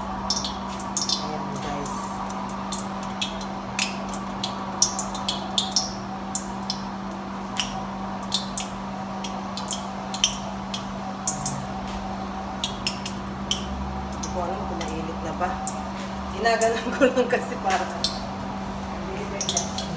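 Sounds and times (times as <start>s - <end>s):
oil crackling in a wok: 0.0s - 19.9s
steady low hum: 0.0s - 19.9s.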